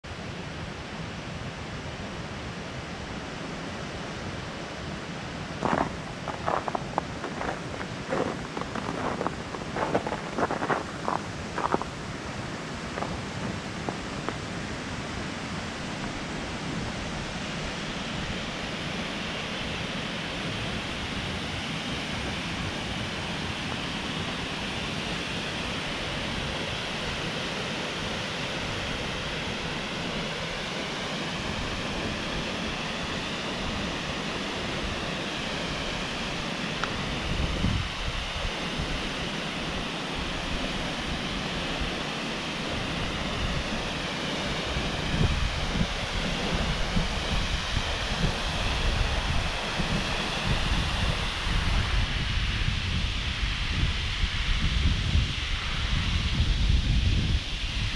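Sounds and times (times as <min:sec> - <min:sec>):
wind rumble on microphone: 0:00.1 - 0:57.9
waterfall rushing: 0:05.0 - 0:52.2.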